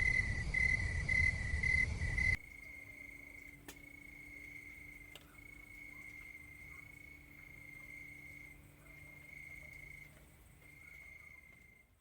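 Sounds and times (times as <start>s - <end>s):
cricket trilling: 0.0s - 11.9s.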